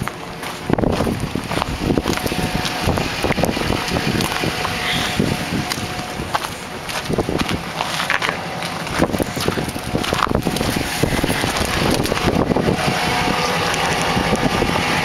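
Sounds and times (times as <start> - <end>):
diesel engine idling: 0.0 - 15.0
wind buffeting microphone: 0.0 - 15.0.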